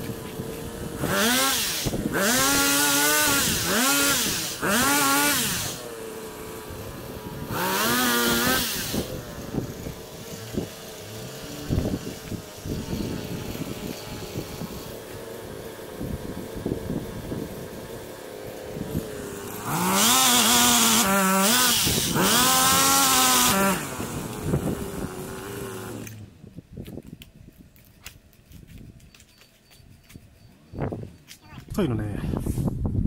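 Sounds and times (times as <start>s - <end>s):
chainsaw cutting branch: 0.0s - 27.1s.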